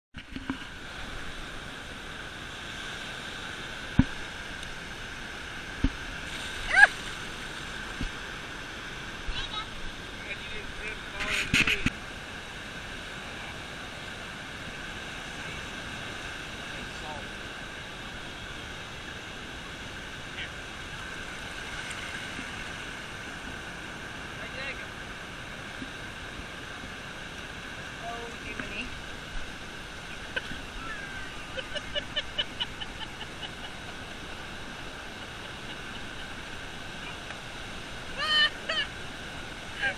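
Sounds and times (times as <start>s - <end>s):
wind: 0.1s - 39.9s
ocean surf rushing: 0.2s - 39.9s.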